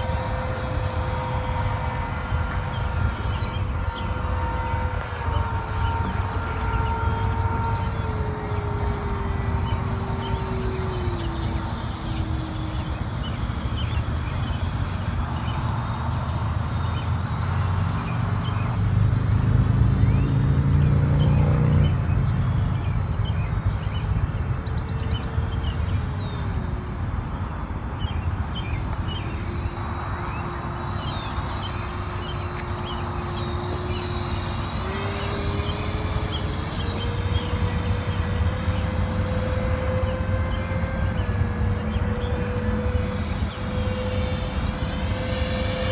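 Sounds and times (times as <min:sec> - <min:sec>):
model jet fan whining: 0:00.0 - 0:45.9
wind rumble on microphone: 0:00.0 - 0:45.9.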